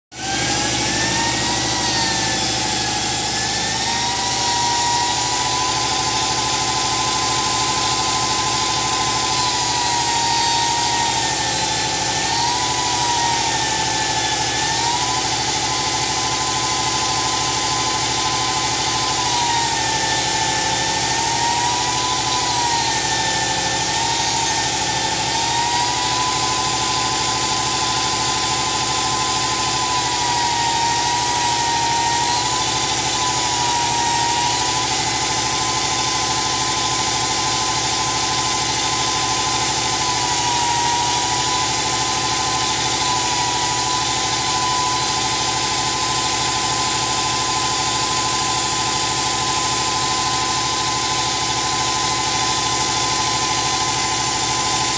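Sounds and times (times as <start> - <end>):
grinder whining on steel plate: 0.1 - 54.9.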